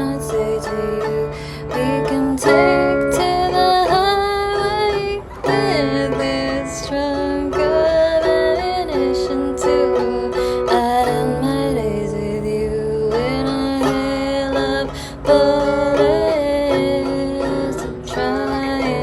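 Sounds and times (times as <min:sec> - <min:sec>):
acoustic guitar: 0:00.0 - 0:19.0
person singing: 0:00.0 - 0:19.0.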